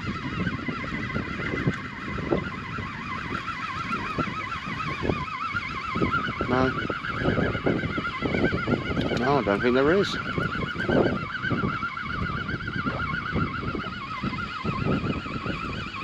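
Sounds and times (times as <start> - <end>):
fishing reel whine: 0.0 - 16.0.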